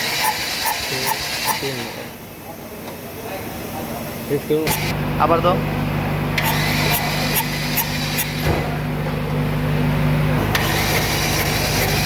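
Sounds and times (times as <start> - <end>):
petrol engine running: 0.0 - 12.0.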